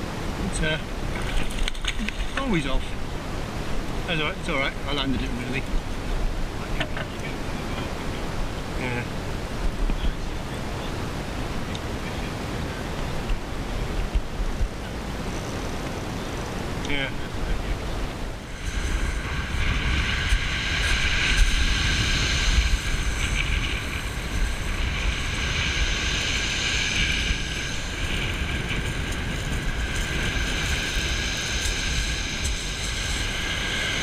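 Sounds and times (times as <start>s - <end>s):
steady high whine: 0.0s - 34.0s
wind buffeting microphone: 0.0s - 34.0s.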